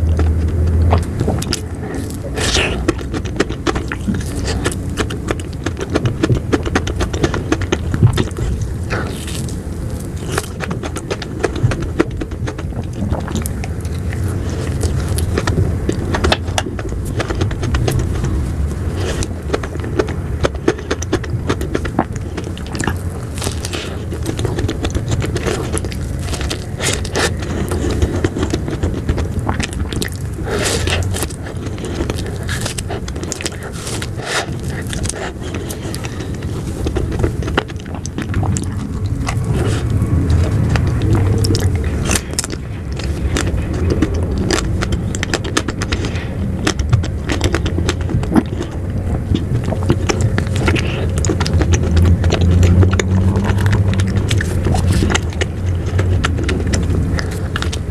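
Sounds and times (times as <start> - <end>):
low rumble: 0.0 - 57.9
person eating ice cream: 0.0 - 57.9.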